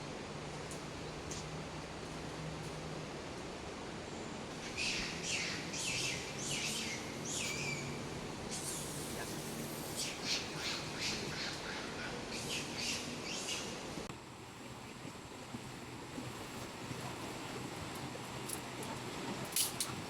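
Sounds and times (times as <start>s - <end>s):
steady hiss: 0.0s - 16.7s.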